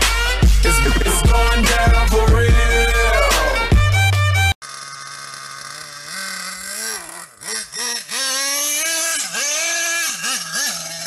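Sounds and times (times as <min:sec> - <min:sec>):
nitro engine revving: 0:00.0 - 0:11.0.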